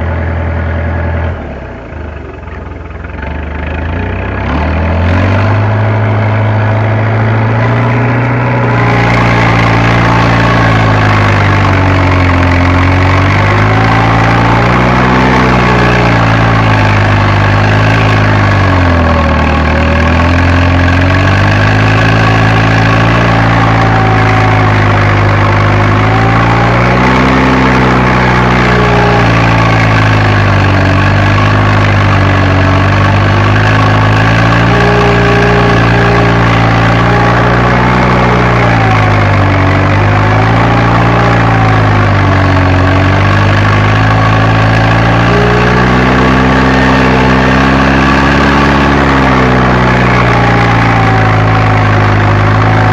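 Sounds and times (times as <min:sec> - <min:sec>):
tractor diesel engine: 0:00.0 - 0:52.9.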